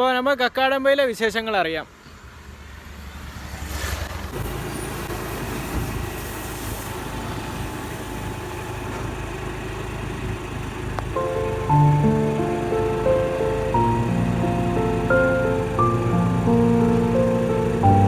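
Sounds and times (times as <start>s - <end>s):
vehicle engine hum: 1.9s - 18.0s.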